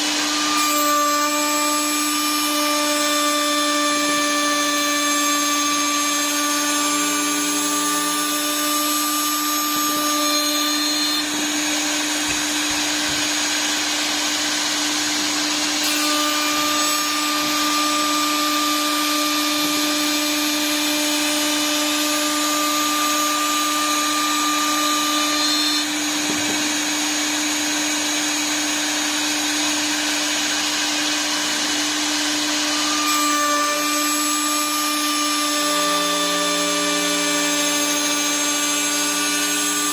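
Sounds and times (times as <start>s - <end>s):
cutter hissing through wood: 0.0s - 39.9s.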